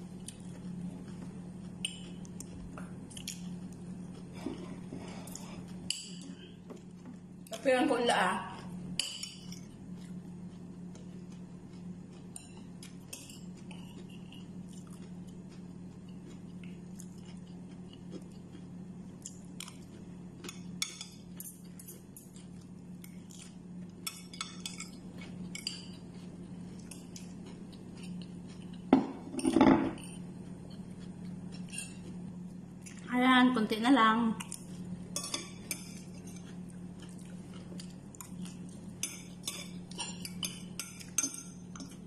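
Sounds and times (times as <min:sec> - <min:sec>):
steady low hum: 0:00.0 - 0:42.0
chewing: 0:00.1 - 0:07.6, 0:08.6 - 0:28.9, 0:30.0 - 0:33.1, 0:34.4 - 0:42.0.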